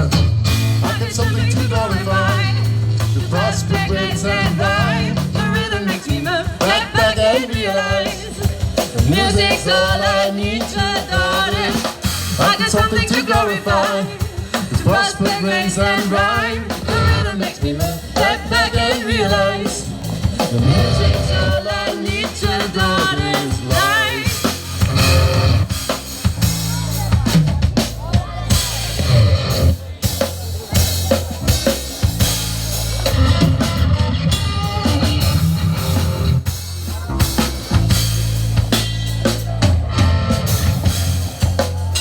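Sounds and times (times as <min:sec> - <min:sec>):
bass line: 0:00.0 - 0:42.0
drum kit beating: 0:00.0 - 0:42.0.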